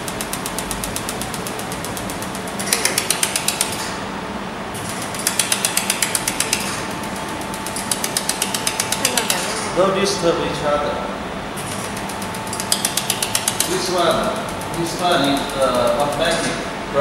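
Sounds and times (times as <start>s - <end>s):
laser welder ticking: 0.0s - 4.0s, 4.8s - 9.7s, 11.6s - 17.0s
steady machine hum: 0.0s - 17.0s.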